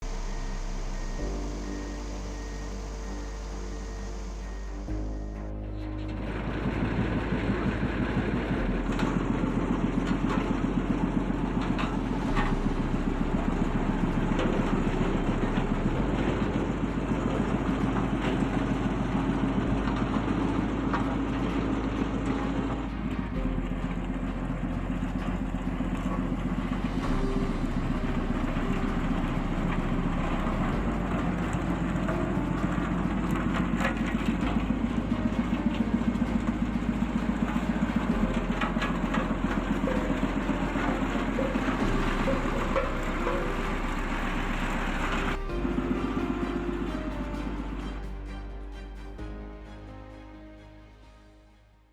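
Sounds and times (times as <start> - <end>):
diesel engine pulsing throb: 0.0 - 49.9.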